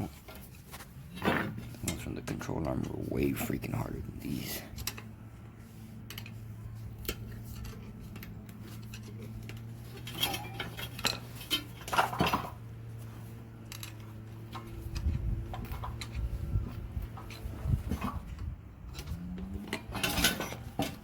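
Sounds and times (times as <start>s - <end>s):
metal tools clinking: 0.0s - 21.0s.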